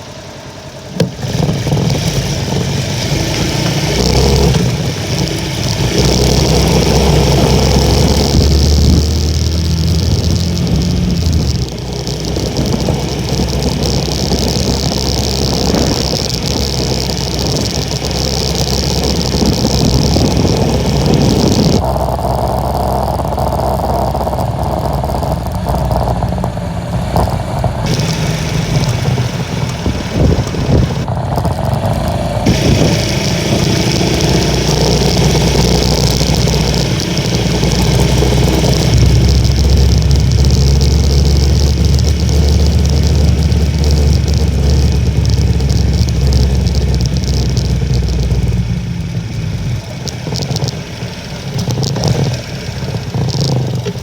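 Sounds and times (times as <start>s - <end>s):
small motorcycle engine running: 0.0s - 54.0s
wind on microphone: 1.2s - 48.6s.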